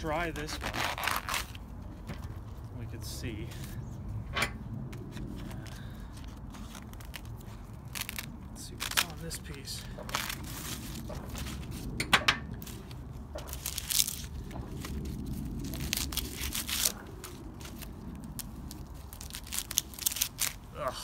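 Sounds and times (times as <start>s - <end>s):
corn husks tearing and rustling: 0.0s - 3.8s, 4.9s - 21.0s.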